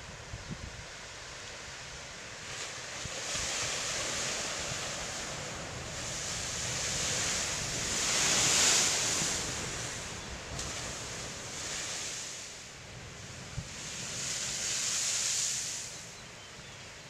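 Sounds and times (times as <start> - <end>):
ocean surf breaking on rocks: 1.7 - 16.0.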